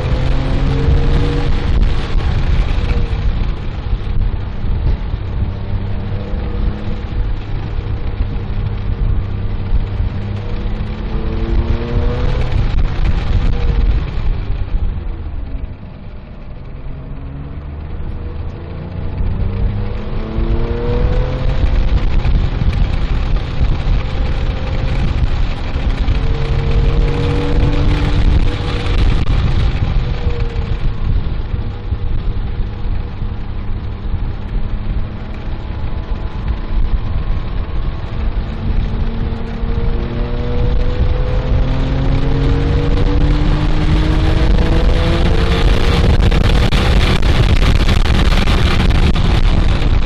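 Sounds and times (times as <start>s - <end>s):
car engine revving: 0.0s - 50.0s
road noise: 0.0s - 50.0s.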